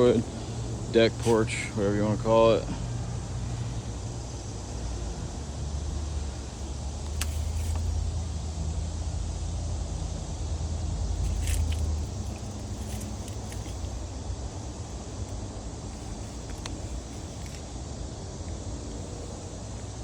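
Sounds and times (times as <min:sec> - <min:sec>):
steady low rumble with hiss: 0:00.0 - 0:20.0.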